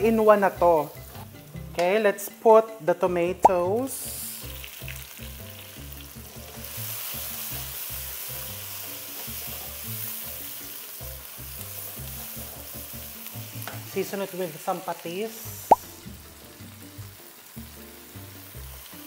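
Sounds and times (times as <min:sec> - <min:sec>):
vegetables sizzling in hot oil: 0:00.0 - 0:01.7, 0:03.5 - 0:19.0.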